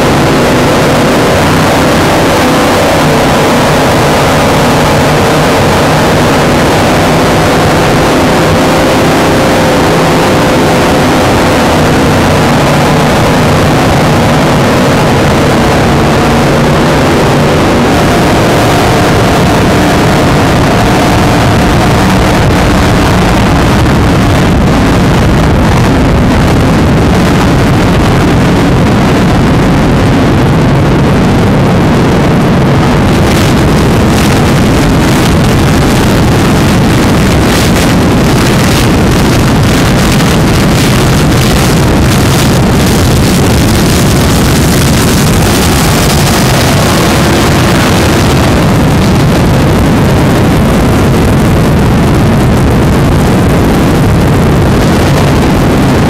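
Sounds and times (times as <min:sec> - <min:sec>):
powerboat engines at high speed: 0:00.0 - 0:56.0
water noise: 0:00.0 - 0:56.0
wind rushing over microphone: 0:00.0 - 0:56.0.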